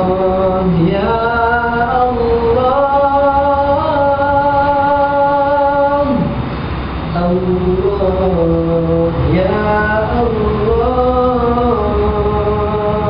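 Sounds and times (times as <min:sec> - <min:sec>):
men singing a cappella harmony: 0:00.0 - 0:06.4, 0:07.1 - 0:13.0.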